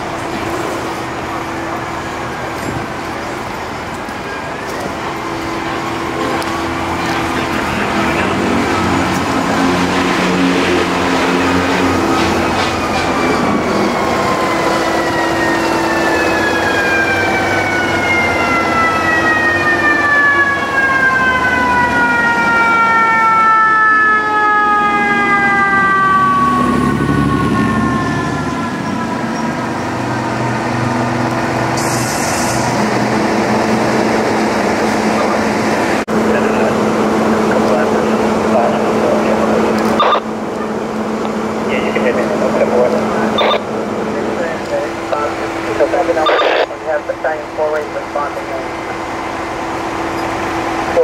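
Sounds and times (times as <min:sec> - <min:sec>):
fire engine siren wailing: 0:00.0 - 0:51.0
truck engine rumbling: 0:00.0 - 0:51.0.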